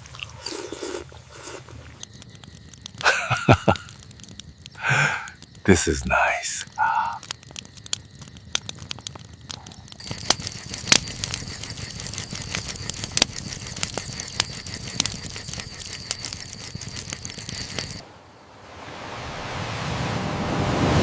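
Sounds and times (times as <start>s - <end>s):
campfire crackling: 0.0s - 18.2s.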